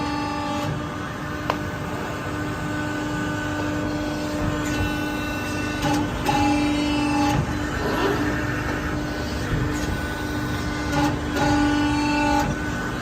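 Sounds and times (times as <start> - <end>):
press brake humming with whine: 0.0 - 13.0
rough workshop noise: 0.0 - 13.0.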